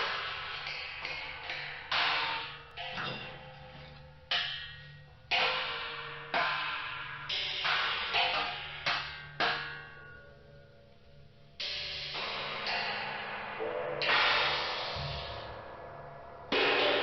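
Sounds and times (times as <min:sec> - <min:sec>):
ringing percussion strikes: 0:00.0 - 0:10.8, 0:11.6 - 0:17.0.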